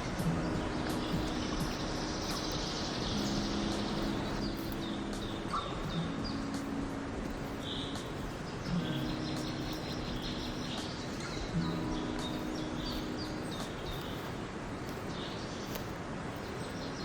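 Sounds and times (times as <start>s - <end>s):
rustling background noise: 0.0s - 17.0s
songbirds chirping: 0.0s - 17.0s.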